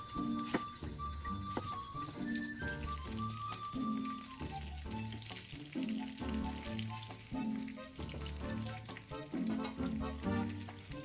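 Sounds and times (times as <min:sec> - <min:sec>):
background music: 0:00.0 - 0:11.0
chicken sizzling in frying pan: 0:00.0 - 0:11.0.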